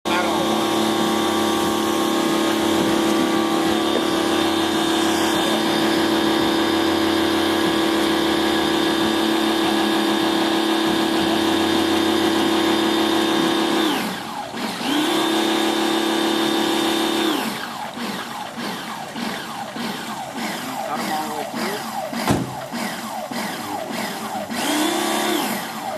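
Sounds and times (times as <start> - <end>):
small motor spinning: 0.2 - 25.9.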